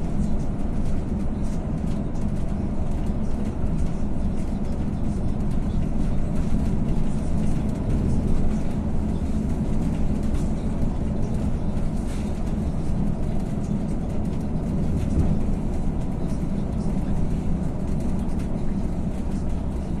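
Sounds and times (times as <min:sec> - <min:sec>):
bus engine drone: 0:00.0 - 0:20.0
road rumble: 0:00.0 - 0:20.0.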